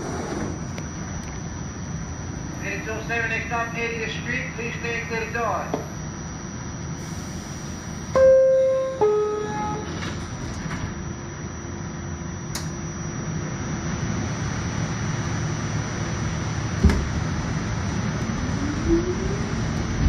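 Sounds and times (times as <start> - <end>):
train equipment hum: 0.0 - 20.0.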